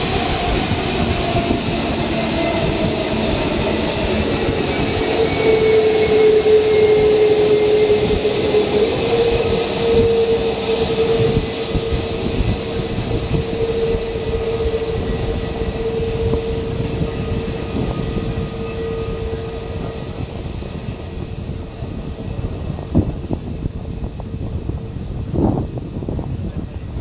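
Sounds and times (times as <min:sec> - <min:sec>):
jet engines whining: 0:00.0 - 0:26.9.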